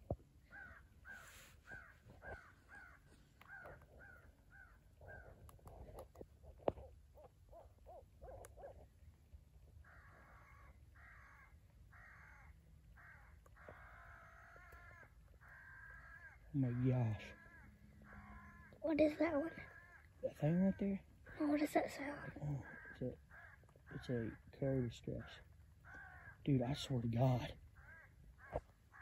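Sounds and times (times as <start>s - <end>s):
crows cawing: 0.4s - 8.8s, 9.7s - 29.0s.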